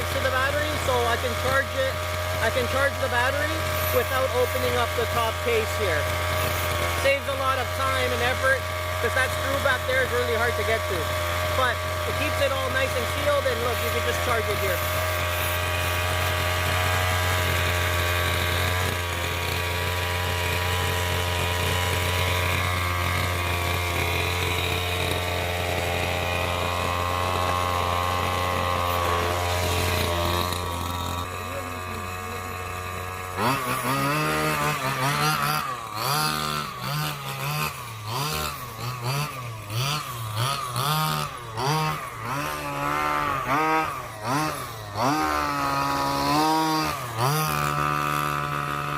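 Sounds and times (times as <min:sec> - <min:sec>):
two-stroke engine idling and revving: 0:00.0 - 0:48.9.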